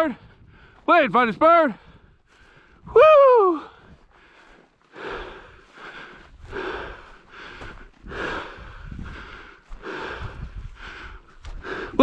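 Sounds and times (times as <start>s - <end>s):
person breathing hard: 0.2s - 0.9s, 1.8s - 2.9s, 3.6s - 12.0s.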